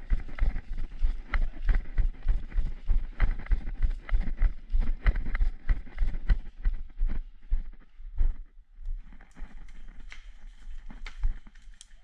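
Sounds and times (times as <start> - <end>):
running footsteps on dirt path: 0.0 - 11.8.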